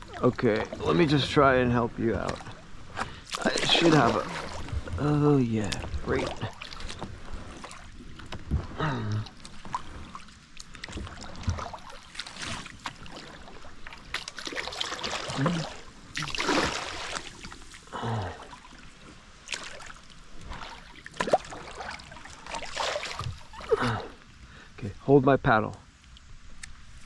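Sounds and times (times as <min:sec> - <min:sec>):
kayak paddles swishing and splashing: 0:00.0 - 0:24.5.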